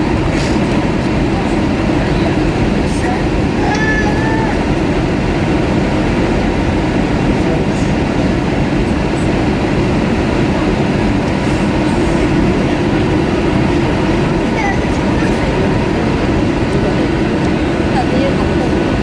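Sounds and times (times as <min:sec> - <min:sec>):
airplane cabin roar: 0:00.0 - 0:19.0.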